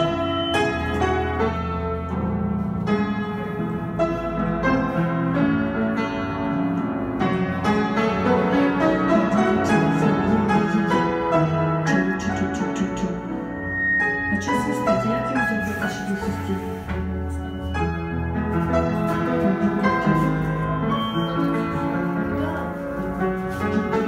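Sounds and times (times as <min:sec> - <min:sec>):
piano playing: 0:00.0 - 0:24.0.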